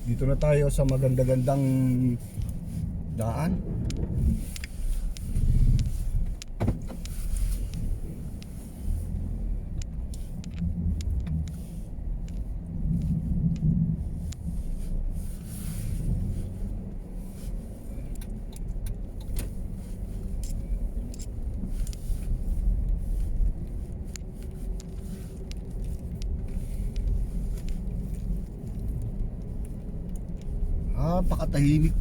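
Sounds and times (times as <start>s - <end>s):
car engine and road rumble: 0.0s - 32.0s
light clicks and rattles: 0.0s - 32.0s.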